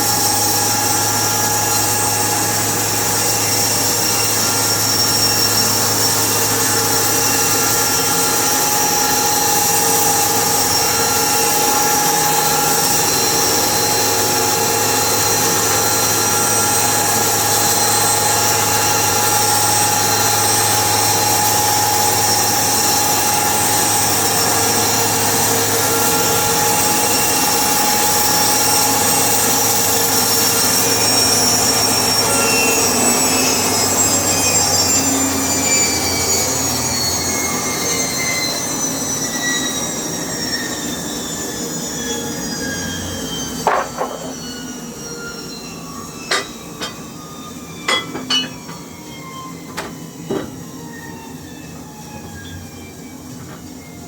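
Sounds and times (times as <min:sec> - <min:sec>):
powered saw whining: 0:00.0 - 0:54.0.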